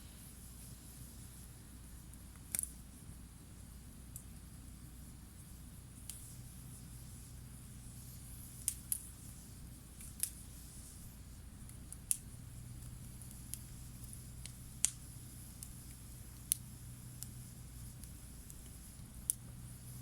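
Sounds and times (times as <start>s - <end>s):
faint low hum: 0.0s - 20.0s
campfire crackling pops: 0.6s - 2.8s, 4.1s - 4.6s, 5.3s - 20.0s.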